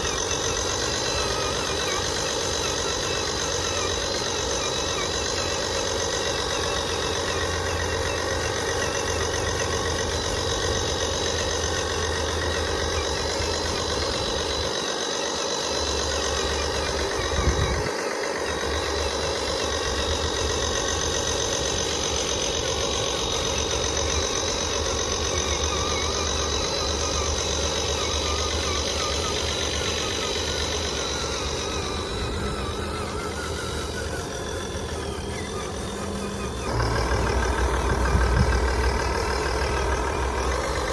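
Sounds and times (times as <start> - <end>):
model truck motor whining: 0.0 - 40.9.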